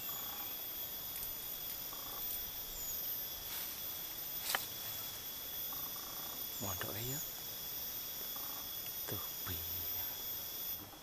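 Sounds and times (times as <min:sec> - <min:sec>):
high-pitched insect drone: 0:00.0 - 0:11.0
outdoor background hiss: 0:00.0 - 0:11.0.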